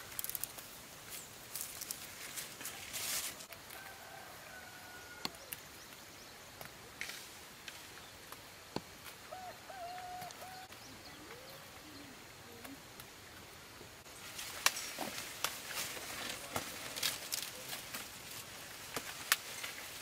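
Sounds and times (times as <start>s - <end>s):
corn stalks rustling and crackling: 0.0s - 4.1s, 5.3s - 13.4s, 14.0s - 20.0s.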